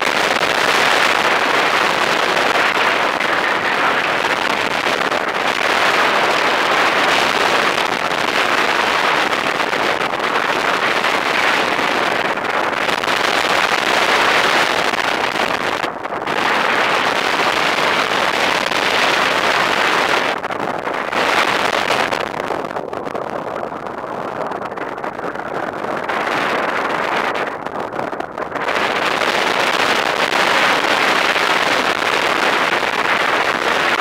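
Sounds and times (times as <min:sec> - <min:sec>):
wind rushing over microphone: 0:00.0 - 0:34.0.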